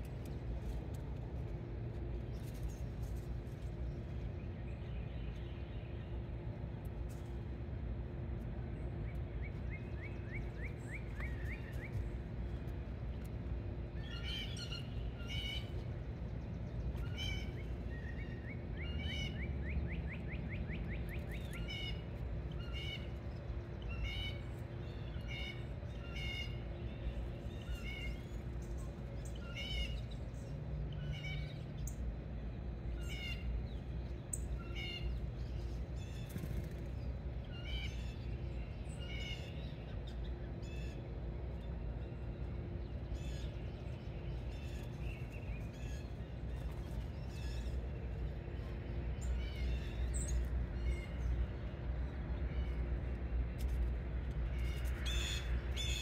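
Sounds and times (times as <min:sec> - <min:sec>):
faint hum: 0:00.0 - 0:56.0
songbirds chirping: 0:00.0 - 0:56.0
steady low rumble: 0:00.0 - 0:56.0.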